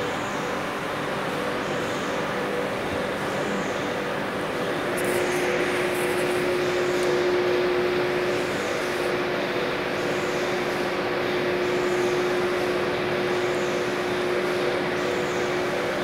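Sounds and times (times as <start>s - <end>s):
constant hum: 0.0s - 16.0s
factory machinery running: 0.0s - 16.0s.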